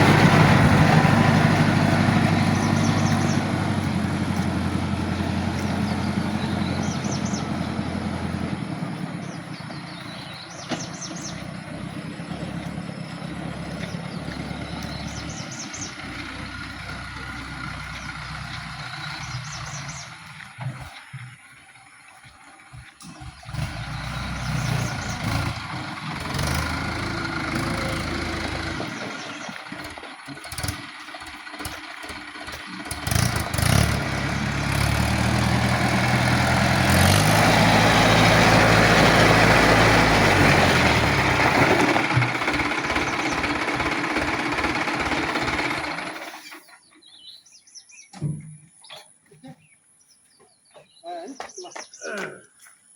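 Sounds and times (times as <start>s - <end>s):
tractor engine running: 0.0s - 47.4s.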